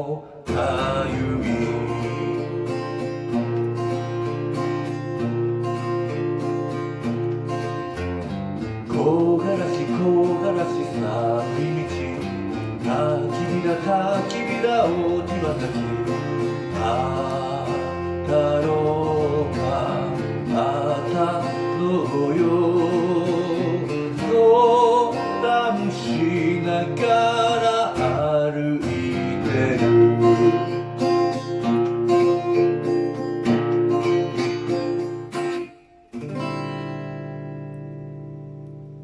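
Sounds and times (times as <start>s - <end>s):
acoustic guitar playing: 0.0s - 39.0s.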